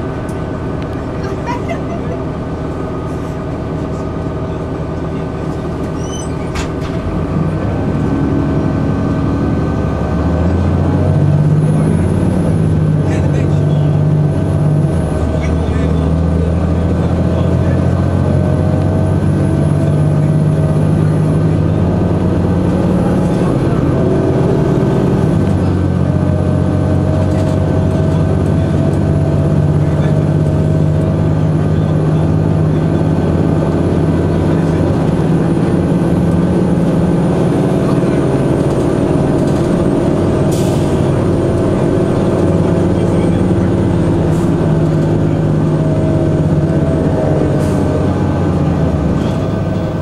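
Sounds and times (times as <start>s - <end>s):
bus diesel engine running: 0.0s - 50.0s.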